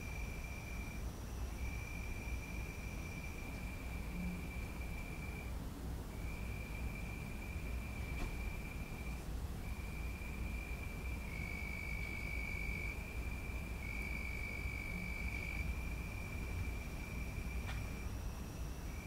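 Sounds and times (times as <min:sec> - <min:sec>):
crickets trilling: 0:00.0 - 0:19.0
low background hum: 0:00.0 - 0:19.0.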